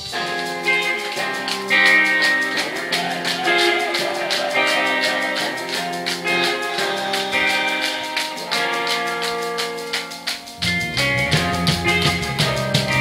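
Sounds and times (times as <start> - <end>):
drum beat: 0.0 - 13.0
electric guitars: 0.0 - 13.0.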